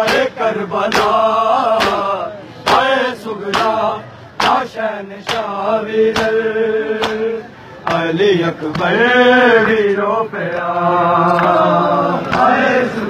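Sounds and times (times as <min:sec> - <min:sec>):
crowd beating chests in unison: 0:00.0 - 0:13.0
men chanting a lament: 0:00.0 - 0:13.0.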